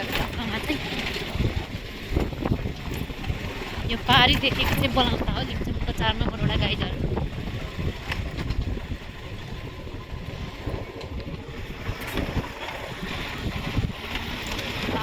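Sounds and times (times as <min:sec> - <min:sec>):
motorcycle engine and road rumble: 0:00.0 - 0:15.0
wind buffeting microphone: 0:00.0 - 0:15.0.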